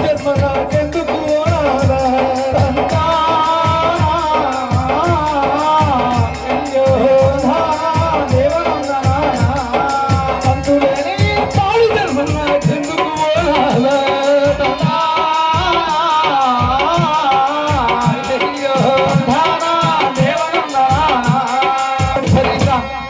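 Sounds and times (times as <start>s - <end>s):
hand drums beating: 0.0s - 22.9s
folk song singing: 0.0s - 23.0s.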